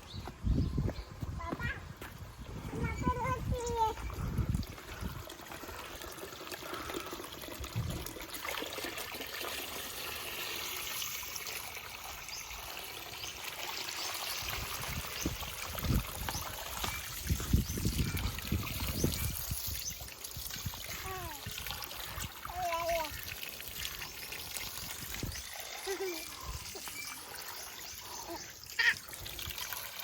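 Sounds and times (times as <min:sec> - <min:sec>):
pouring water trickling: 0:02.2 - 0:30.0.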